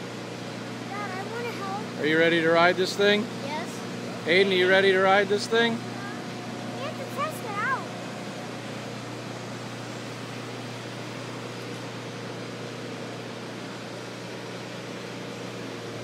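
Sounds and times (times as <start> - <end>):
ventilation hum and hiss: 0.0 - 16.0.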